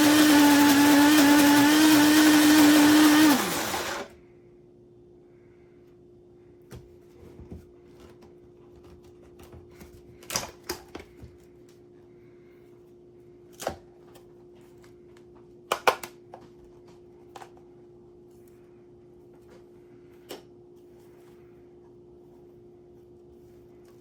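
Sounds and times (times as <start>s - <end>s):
faint steady hum: 4.0s - 24.0s.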